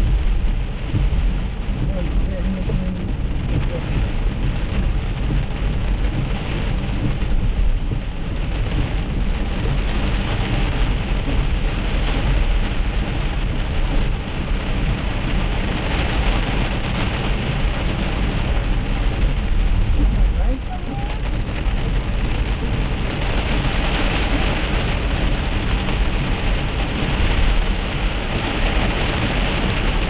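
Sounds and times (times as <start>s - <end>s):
heavy rain on car roof: 0.0s - 30.0s
tyres rumbling on wet road: 0.0s - 30.0s.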